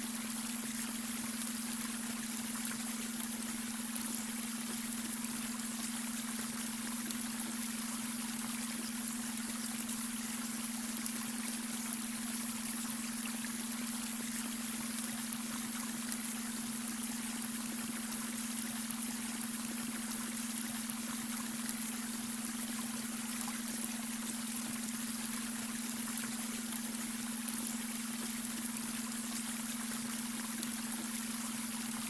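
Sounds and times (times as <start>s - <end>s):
brook water trickling and rushing: 0.0s - 32.0s.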